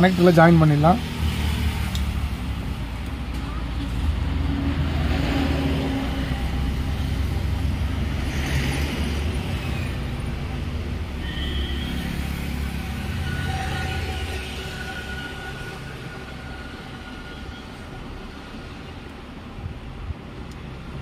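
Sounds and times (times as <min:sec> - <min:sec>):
passing road traffic rumble: 0:00.0 - 0:21.0.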